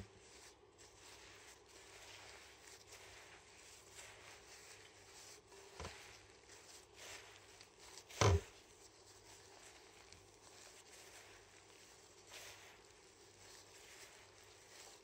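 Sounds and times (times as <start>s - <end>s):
meat squishing: 0.0s - 15.0s
plastic gloves rustling: 0.0s - 15.0s.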